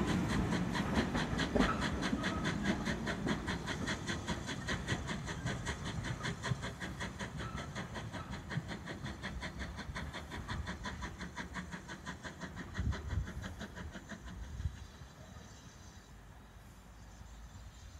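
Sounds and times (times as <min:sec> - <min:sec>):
carriages rumbling on rails: 0:00.0 - 0:17.9
steam locomotive chuffing: 0:00.0 - 0:17.9.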